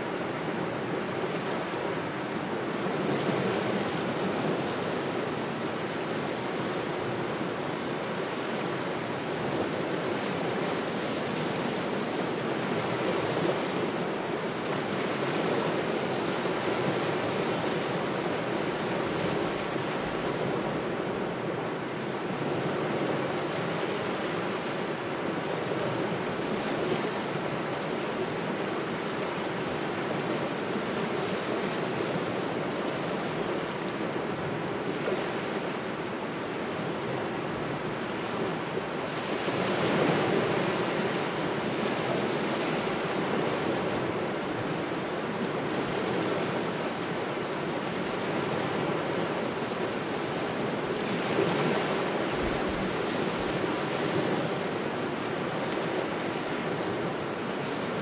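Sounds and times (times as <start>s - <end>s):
waves washing onto shore: 0.0s - 58.0s.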